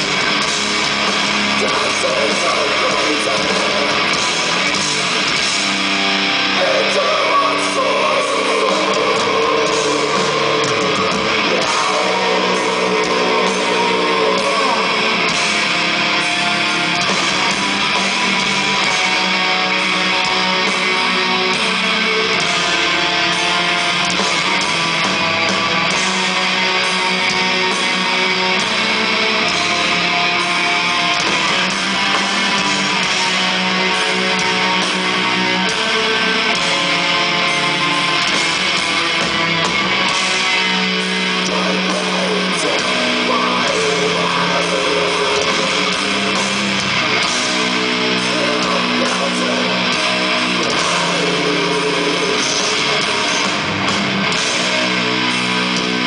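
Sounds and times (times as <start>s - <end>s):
bass: 0.0s - 56.0s
distorted electric guitars: 0.0s - 56.0s
drums: 0.0s - 56.0s.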